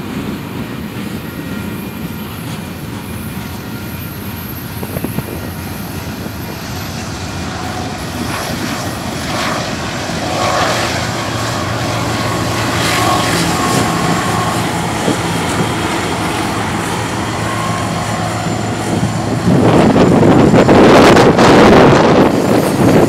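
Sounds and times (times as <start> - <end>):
diesel locomotive engine hum: 0.0 - 23.0
wind buffeting microphone: 0.0 - 23.0.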